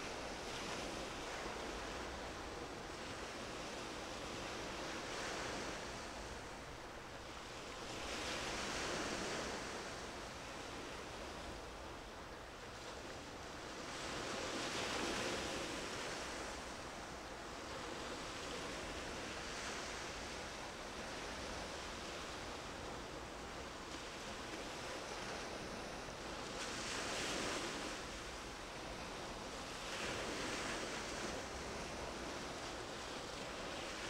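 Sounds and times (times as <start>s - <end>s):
sea waves washing in: 0.0s - 34.0s.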